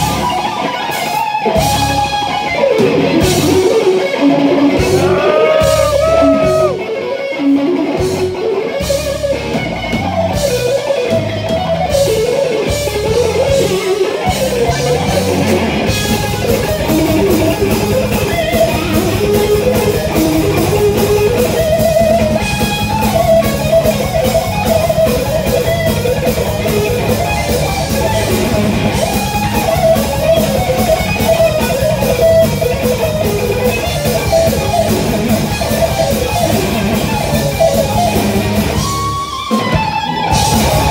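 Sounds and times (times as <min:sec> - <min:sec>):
bass guitar: 0:00.0 - 0:40.9
distorted electric guitar lead: 0:00.0 - 0:40.9
drums: 0:00.0 - 0:40.9.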